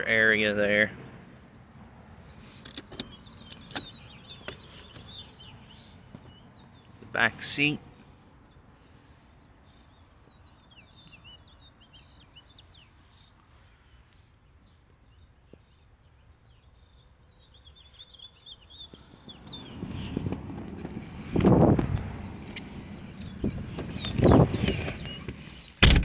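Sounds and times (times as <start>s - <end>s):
faint birdsong chirps: 0.0s - 25.8s.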